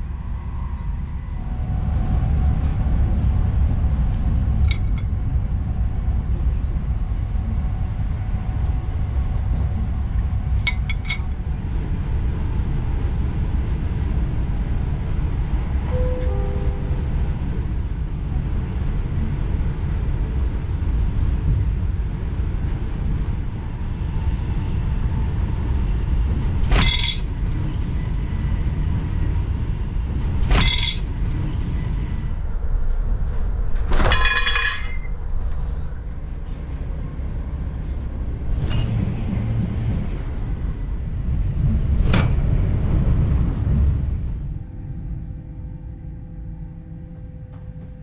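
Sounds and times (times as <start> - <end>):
passing train rush: 0.0 - 45.4
train rumbling on rails: 0.0 - 48.0.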